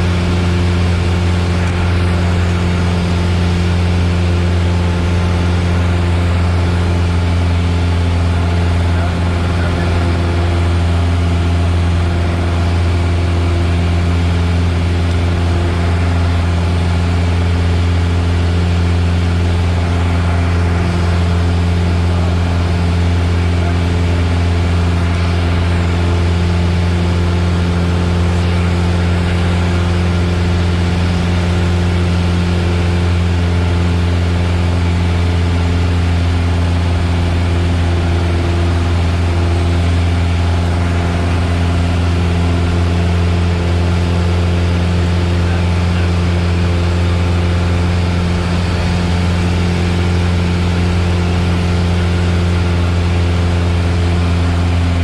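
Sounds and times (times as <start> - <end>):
aircraft engine and propeller droning: 0.0 - 55.0.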